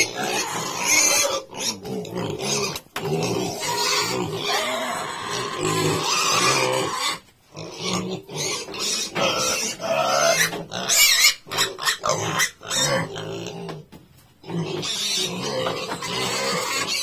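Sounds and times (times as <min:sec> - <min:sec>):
piglets grunting and squealing: 0:00.0 - 0:17.0.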